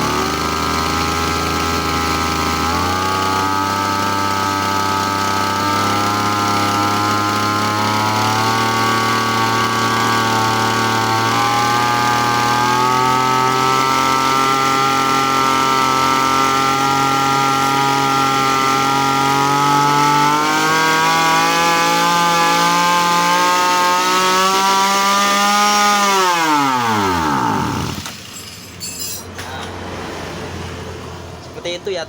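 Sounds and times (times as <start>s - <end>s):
small engine running: 0.0s - 28.4s.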